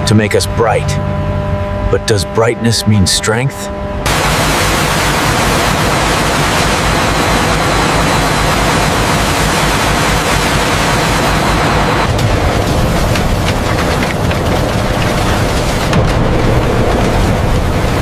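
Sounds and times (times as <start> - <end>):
low throbbing rumble: 0.0 - 18.0.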